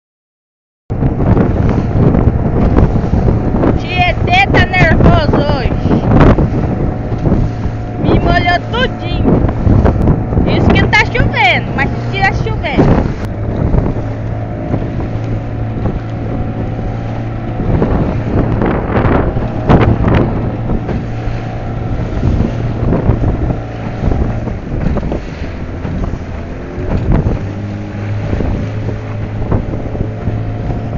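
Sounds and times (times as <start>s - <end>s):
boat hull slapping waves: 0.9s - 30.9s
outboard motor running: 0.9s - 30.9s
wind buffeting microphone: 0.9s - 30.9s.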